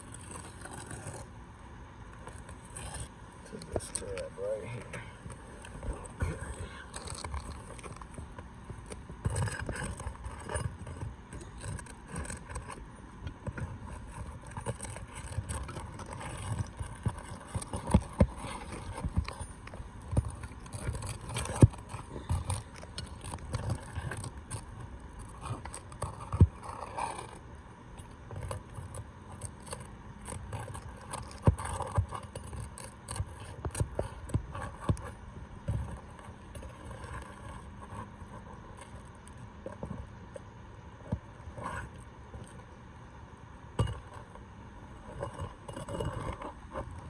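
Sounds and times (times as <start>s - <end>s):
scraping and rustling shingles: 0.0s - 1.4s, 2.1s - 42.8s, 43.8s - 47.0s.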